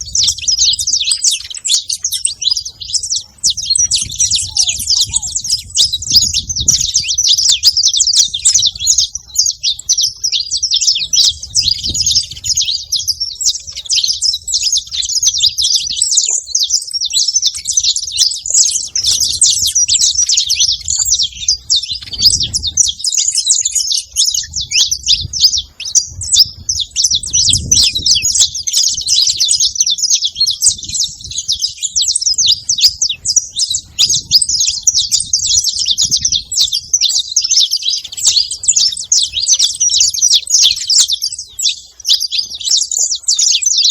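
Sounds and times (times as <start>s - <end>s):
finches chirping and twittering: 0.0s - 43.9s.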